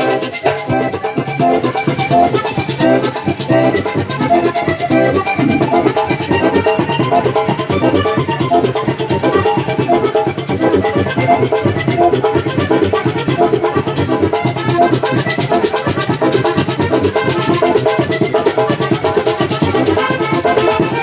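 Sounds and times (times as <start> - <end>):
accordion runs: 0.0 - 21.0
rapid drum beat: 0.0 - 21.0
scraper rhythm: 0.0 - 21.0.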